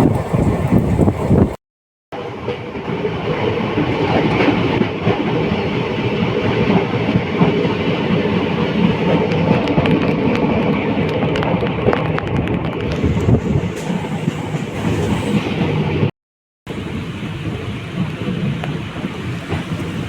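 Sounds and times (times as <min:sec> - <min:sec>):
train wheels clattering on rails: 0:02.2 - 0:16.1, 0:17.2 - 0:20.0.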